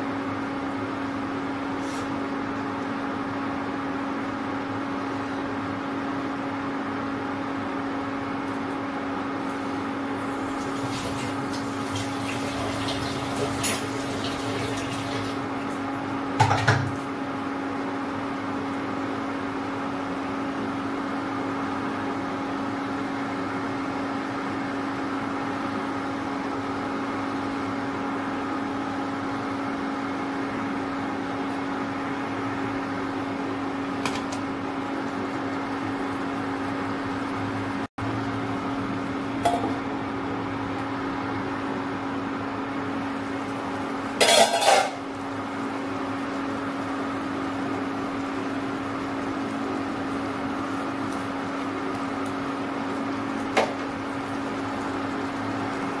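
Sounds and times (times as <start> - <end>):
induction cooktop humming: 0.0 - 56.0.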